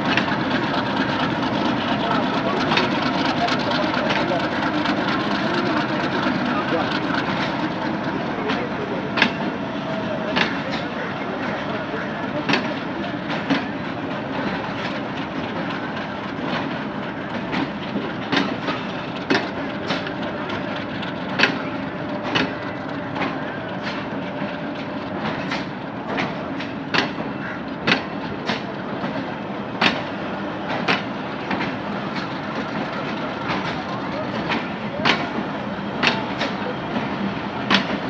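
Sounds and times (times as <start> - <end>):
steady train rumble: 0.0 - 38.0
train wheels clacking over rail joints: 0.0 - 38.0.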